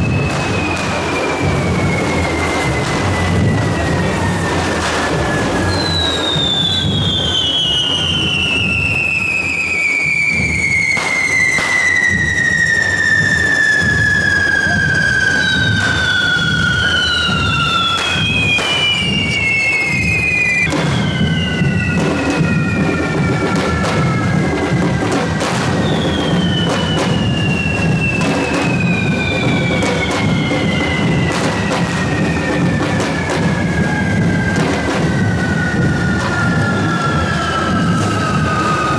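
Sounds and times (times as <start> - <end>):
firework bangs: 0.0 - 38.9
whistling fireworks: 0.0 - 38.9.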